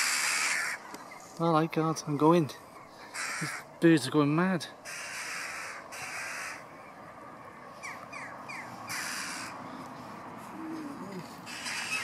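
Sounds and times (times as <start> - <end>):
birds rasping alarm calls: 0.0 - 6.9, 7.8 - 9.8, 10.6 - 12.0.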